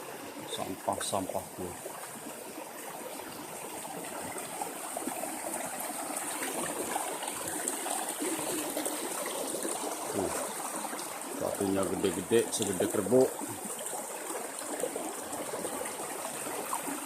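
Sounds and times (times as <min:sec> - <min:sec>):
river water babbling over rocks: 0:00.0 - 0:17.0.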